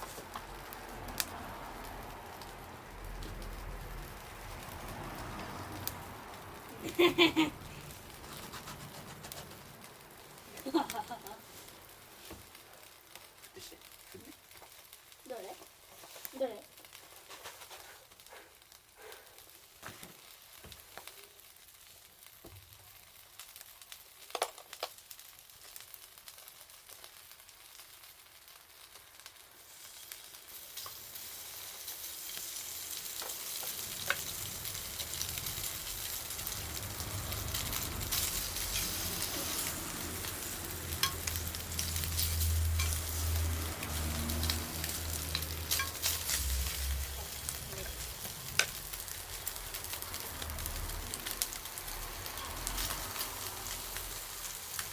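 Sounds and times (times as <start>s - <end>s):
fire crackling: 0.0s - 54.9s
food sizzling over campfire: 0.0s - 54.9s.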